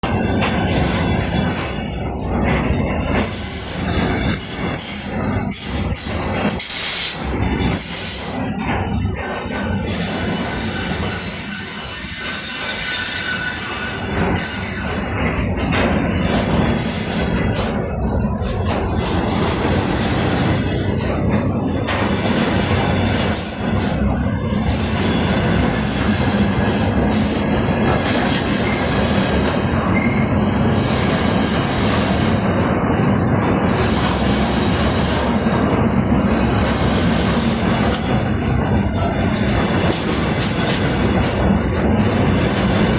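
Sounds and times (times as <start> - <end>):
train rumbling along track: 0.0 - 42.9.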